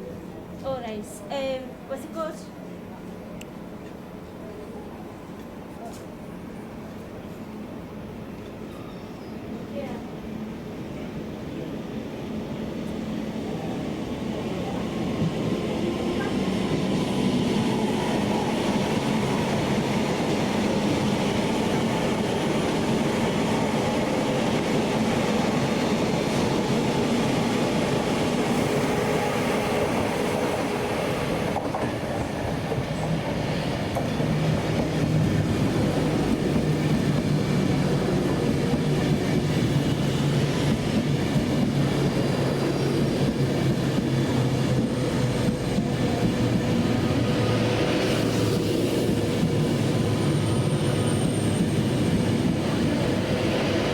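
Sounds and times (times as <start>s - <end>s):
train moving on rails: 0.0s - 53.9s.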